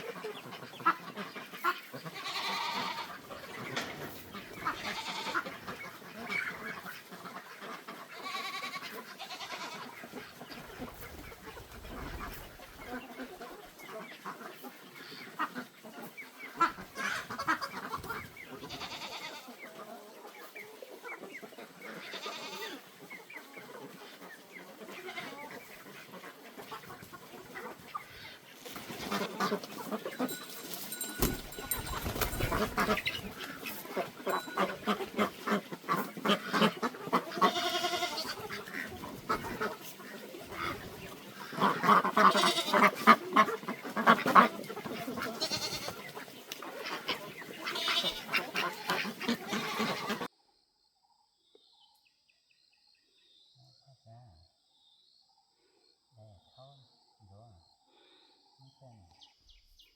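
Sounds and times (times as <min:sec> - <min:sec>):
poultry clucking: 0:00.0 - 0:50.3.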